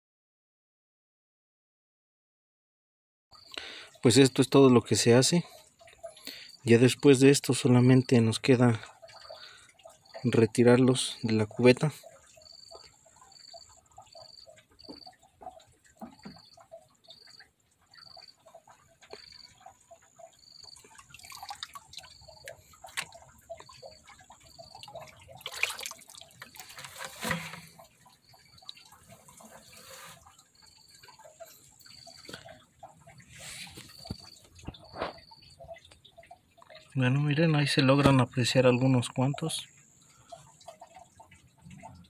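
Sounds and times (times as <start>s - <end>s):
water splashing and dripping: 3.4s - 42.0s.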